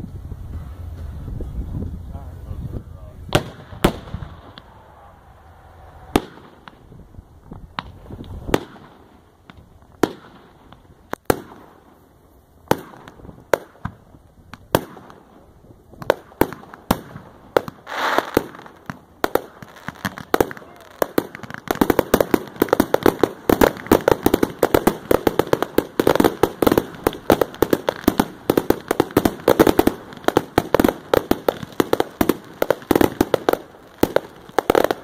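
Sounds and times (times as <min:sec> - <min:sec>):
fireworks banging: 0:03.2 - 0:12.0, 0:12.6 - 0:35.0
firework hiss: 0:03.2 - 0:12.1, 0:12.7 - 0:35.0.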